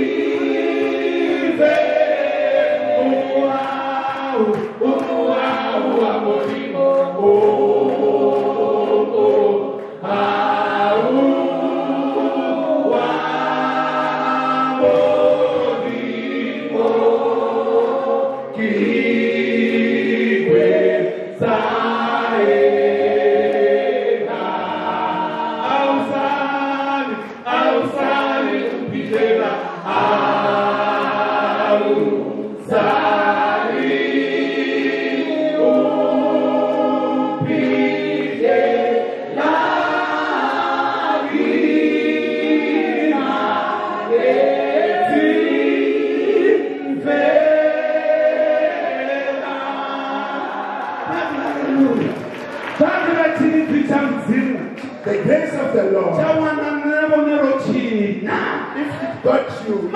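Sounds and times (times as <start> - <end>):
choir singing gospel: 0.0 - 59.9.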